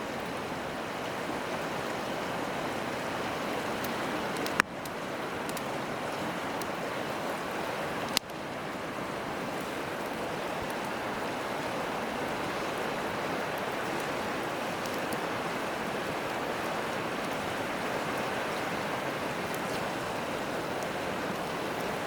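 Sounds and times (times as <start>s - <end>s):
river rushing: 0.1s - 22.0s
campfire wood popping: 3.2s - 22.0s.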